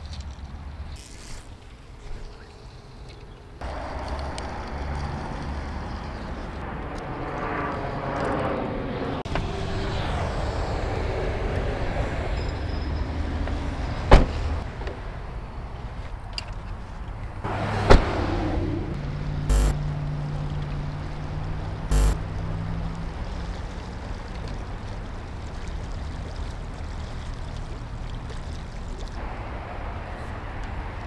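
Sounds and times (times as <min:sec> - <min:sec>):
road traffic rumble and tyre hiss: 0:00.0 - 0:31.0.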